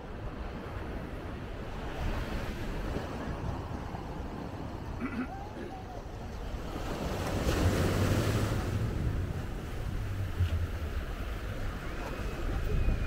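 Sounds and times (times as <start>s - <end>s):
sea surf washing ashore: 0.0s - 13.0s
wind rumble on microphone: 0.0s - 13.0s.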